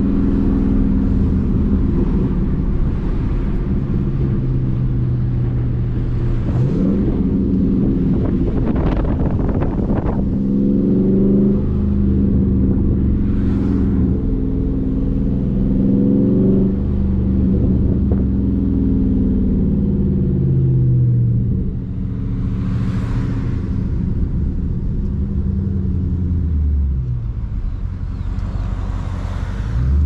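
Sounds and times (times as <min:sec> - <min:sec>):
car engine cruising: 0:00.0 - 0:30.0.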